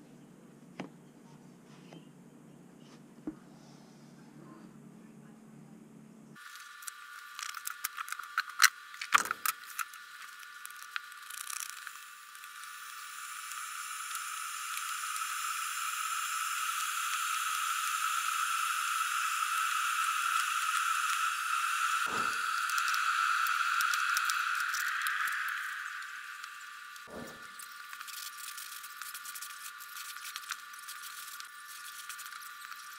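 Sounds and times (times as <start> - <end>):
electric kettle hissing: 6.4 - 32.9.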